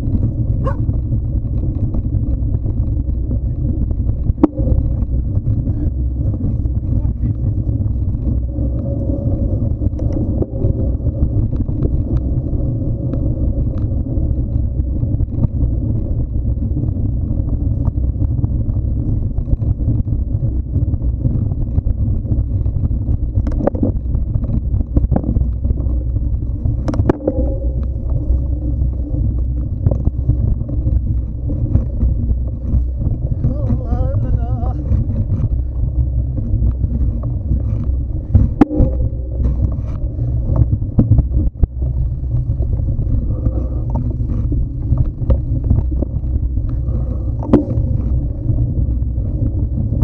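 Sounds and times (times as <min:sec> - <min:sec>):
ground noise: 0:00.0 - 0:50.0
wind buffeting microphone: 0:00.0 - 0:50.0.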